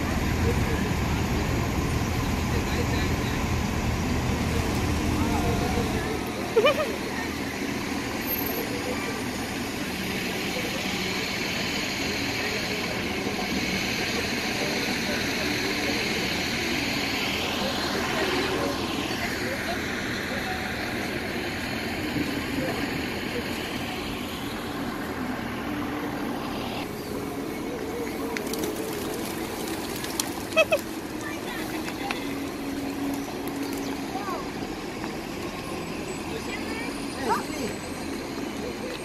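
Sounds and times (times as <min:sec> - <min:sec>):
outdoor crowd noise: 0:00.0 - 0:39.0
traffic street din: 0:00.0 - 0:39.0
vehicle engines idling: 0:00.0 - 0:39.0.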